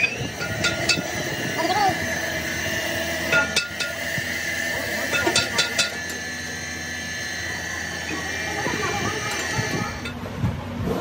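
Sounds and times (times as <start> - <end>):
workshop machinery humming and whining: 0.0 - 11.0.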